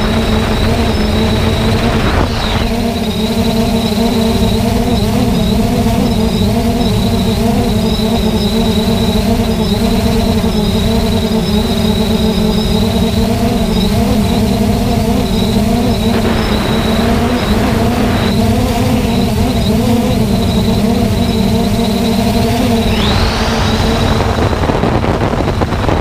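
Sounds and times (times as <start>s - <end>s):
quadcopter motors humming: 0.0s - 26.0s
wind rumble on microphone: 0.0s - 26.0s.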